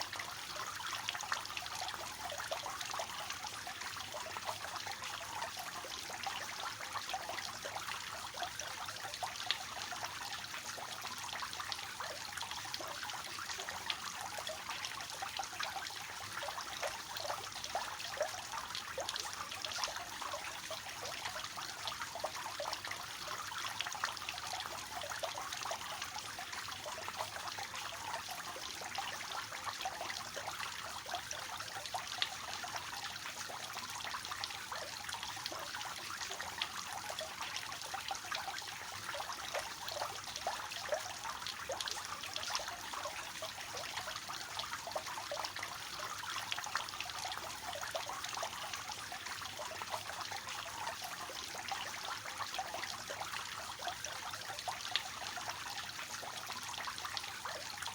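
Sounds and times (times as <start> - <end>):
fountain water splashing: 0.0 - 57.9.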